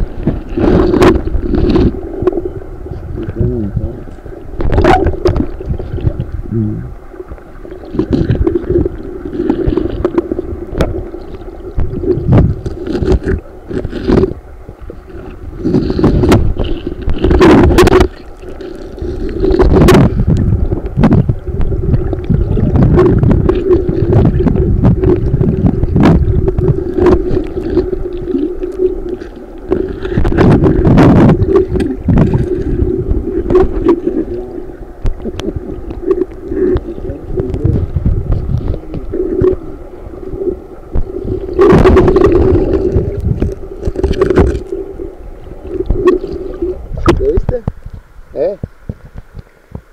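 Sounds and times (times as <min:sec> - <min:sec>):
gurgling water underwater: 0:00.0 - 0:49.9
steady low hum: 0:00.0 - 0:49.9.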